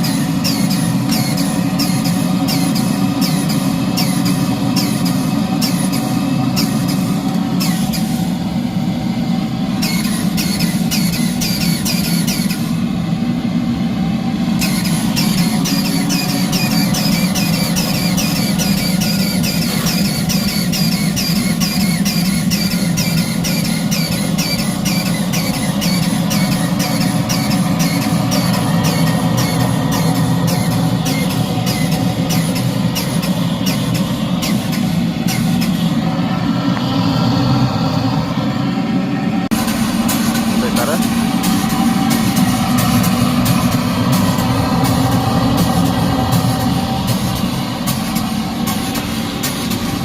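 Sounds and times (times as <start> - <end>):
blowtorch rushing: 0.0 - 50.0
steam engine beat: 0.0 - 50.0.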